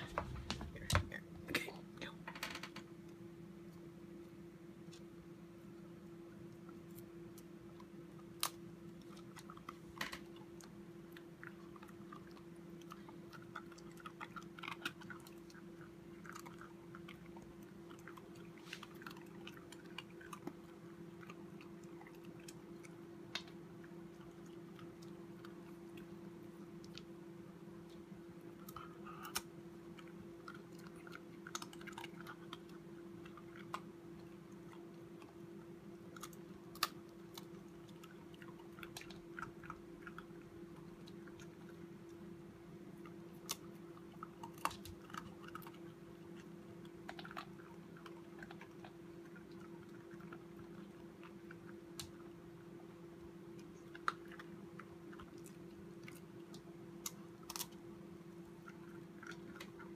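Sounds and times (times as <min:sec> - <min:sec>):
puppy crunching dog biscuit: 0:06.0 - 0:27.2, 0:27.8 - 0:59.9.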